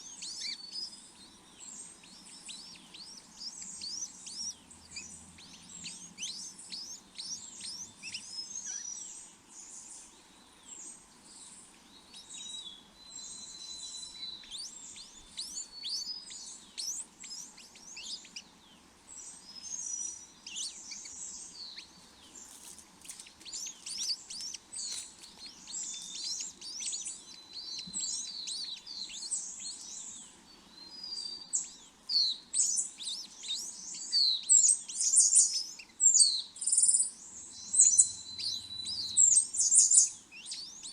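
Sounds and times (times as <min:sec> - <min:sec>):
small birds chirping rapidly: 0:00.0 - 0:40.9.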